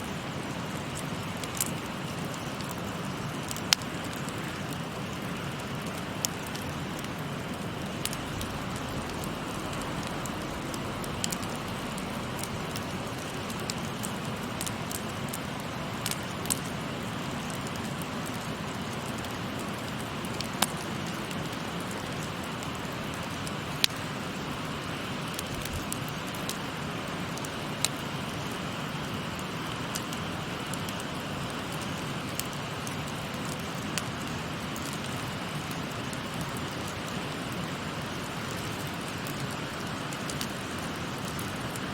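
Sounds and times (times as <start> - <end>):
campfire popping and crackling: 0.0 - 41.9.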